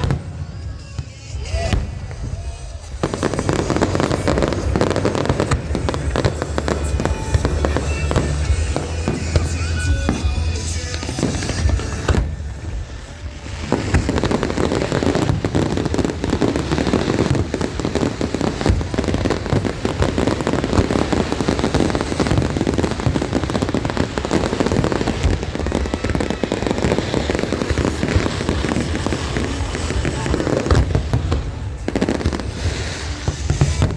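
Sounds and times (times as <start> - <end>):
fireworks bangs and crackle: 0.0 - 33.9.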